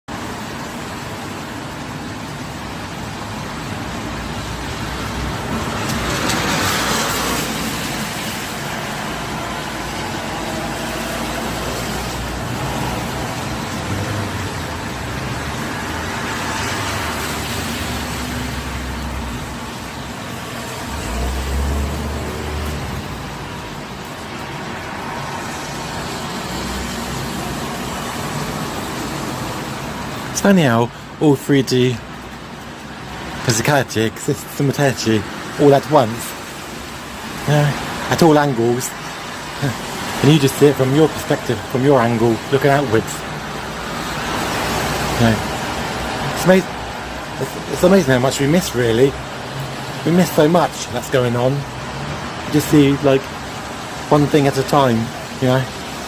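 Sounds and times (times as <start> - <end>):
rain and wet tyres hissing: 0.1 - 56.0
vehicles passing: 0.1 - 56.0.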